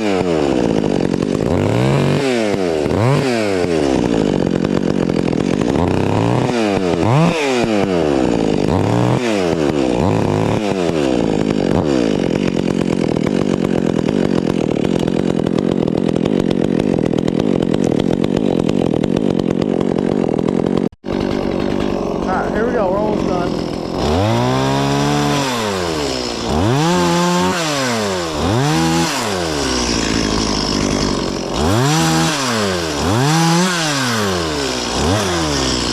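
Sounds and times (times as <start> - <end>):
chainsaw engine revving: 0.0 - 35.9.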